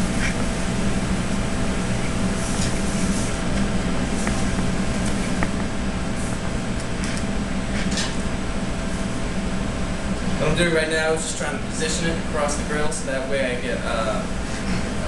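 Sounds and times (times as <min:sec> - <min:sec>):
exhaust hood fan humming: 0:00.0 - 0:15.0.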